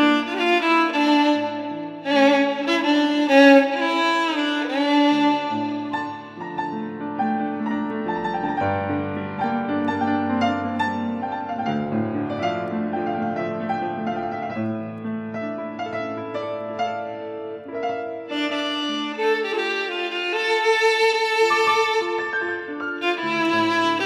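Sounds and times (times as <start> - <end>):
piano notes: 0.0 - 24.0
violin sliding melody: 0.0 - 24.0.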